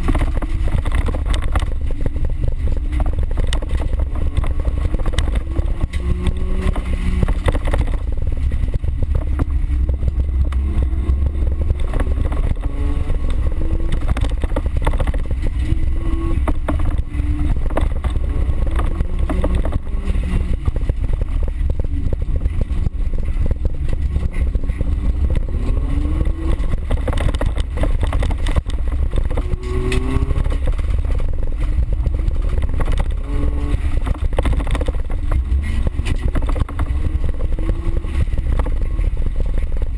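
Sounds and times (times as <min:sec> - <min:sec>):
car engine revving: 0:00.0 - 0:39.9
knocks and rattles: 0:00.0 - 0:39.9.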